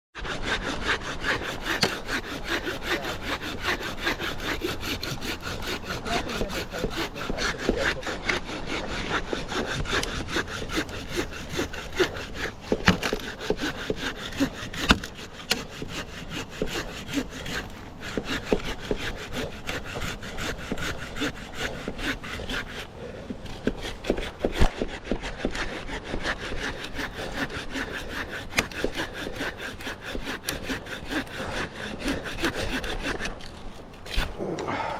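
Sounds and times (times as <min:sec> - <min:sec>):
hand saw cutting log: 0:00.2 - 0:34.9.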